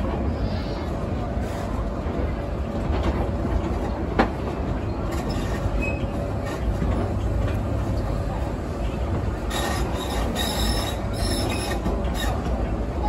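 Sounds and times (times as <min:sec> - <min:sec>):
train rumbling along track: 0:00.0 - 0:13.0.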